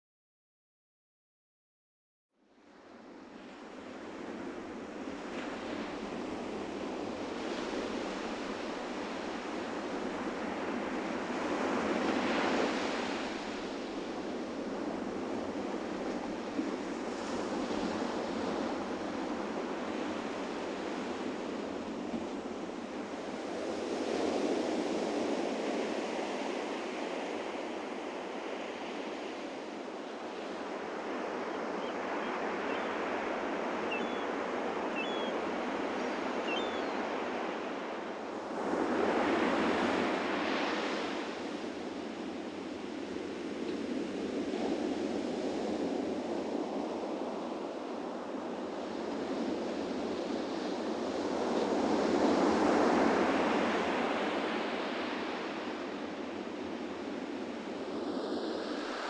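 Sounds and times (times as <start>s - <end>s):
ocean waves breaking on a beach: 2.5s - 59.0s.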